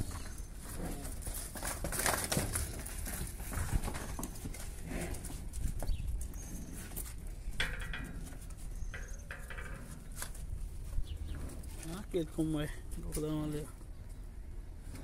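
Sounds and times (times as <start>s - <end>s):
cattle hooves on dirt: 0.0s - 13.9s.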